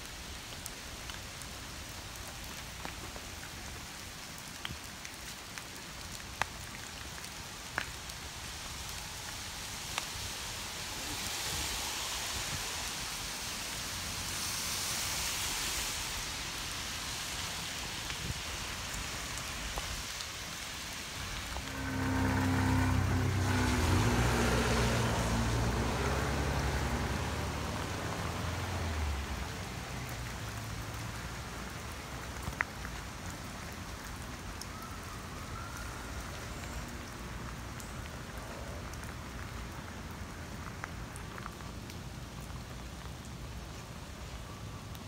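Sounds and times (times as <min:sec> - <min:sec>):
car passing on wet street: 0:00.0 - 0:45.0
rain on wet pavement: 0:00.0 - 0:45.0.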